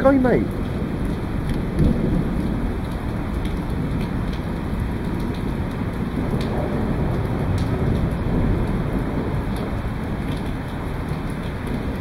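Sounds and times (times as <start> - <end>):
rain on cars and pavement: 0.0 - 12.0.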